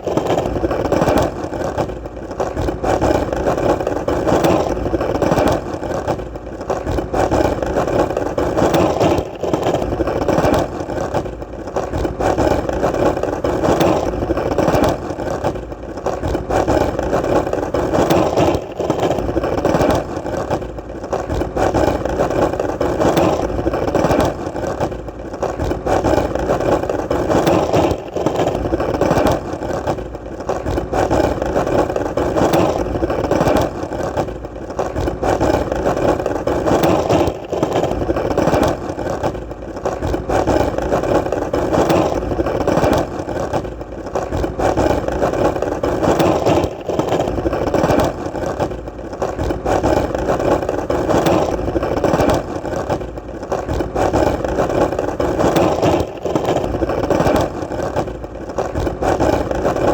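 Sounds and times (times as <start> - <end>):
skateboard wheels rolling: 0.0 - 59.9.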